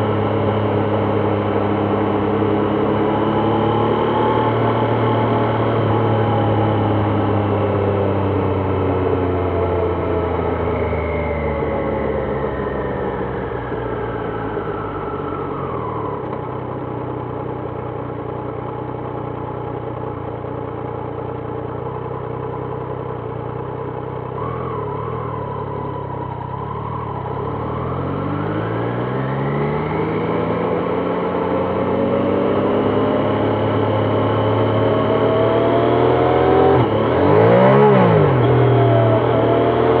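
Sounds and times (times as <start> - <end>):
motorcycle engine revving: 0.0 - 16.5, 23.8 - 40.0.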